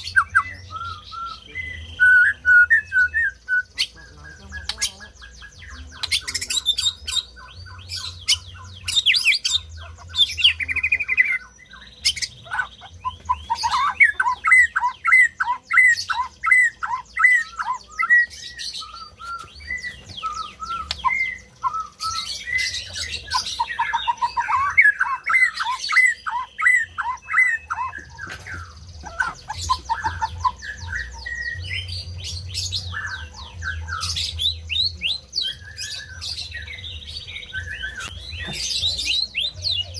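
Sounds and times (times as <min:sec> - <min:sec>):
songbird singing whistled phrases: 0:00.0 - 0:39.9.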